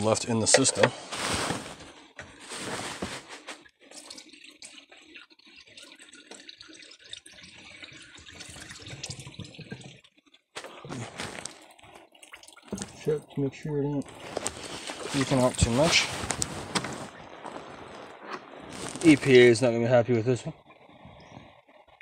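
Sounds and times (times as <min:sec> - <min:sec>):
liquid pouring and splashing: 0:00.4 - 0:19.7.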